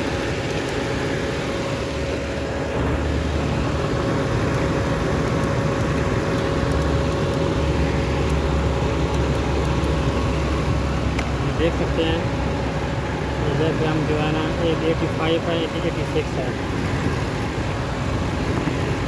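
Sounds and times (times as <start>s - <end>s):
car engine idling: 0.0s - 19.0s
thin steady whine: 0.0s - 19.0s.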